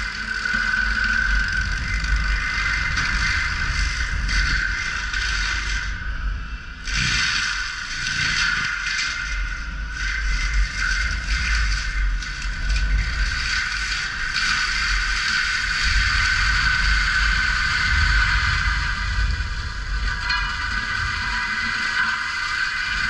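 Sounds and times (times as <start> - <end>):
diesel engine running with whine: 0.0 - 22.8.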